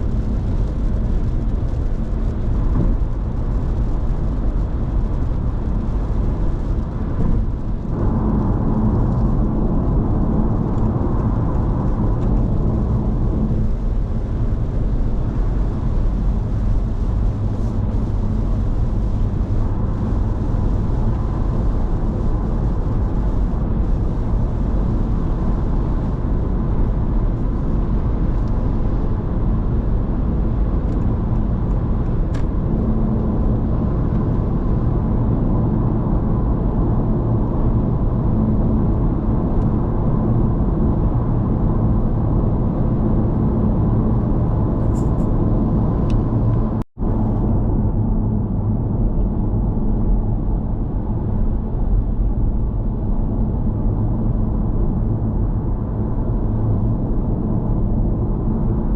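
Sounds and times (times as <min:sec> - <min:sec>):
car road noise in cabin: 0:00.0 - 0:58.9.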